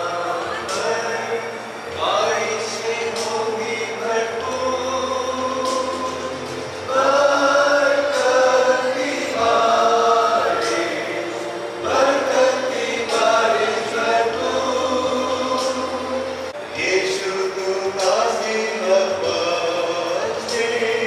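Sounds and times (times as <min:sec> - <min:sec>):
congregation singing a hymn: 0:00.0 - 0:21.0.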